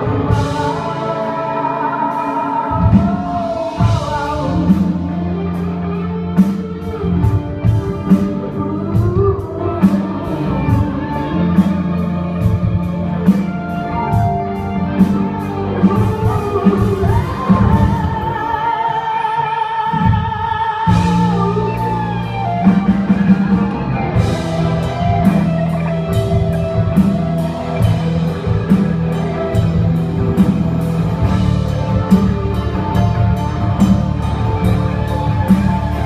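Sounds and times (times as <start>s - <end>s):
pop song with orchestra: 0.0s - 36.0s.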